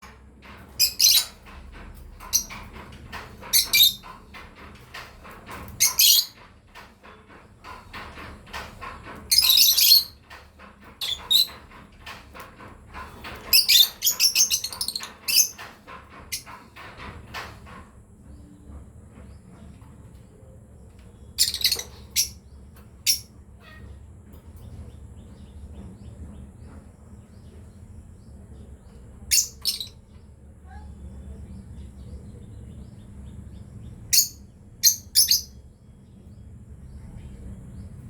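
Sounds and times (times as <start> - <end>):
faint bird chatter: 0.0 - 38.0.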